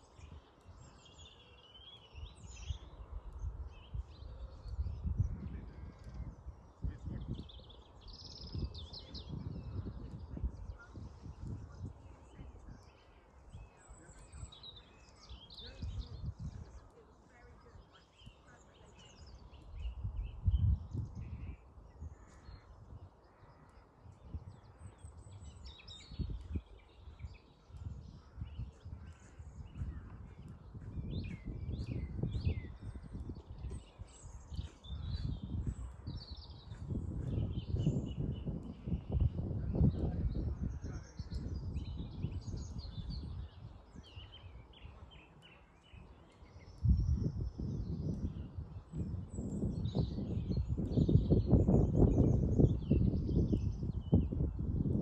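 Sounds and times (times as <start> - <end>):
birds chirping and calling: 0.0 - 54.9
wind buffeting microphone: 0.0 - 55.0.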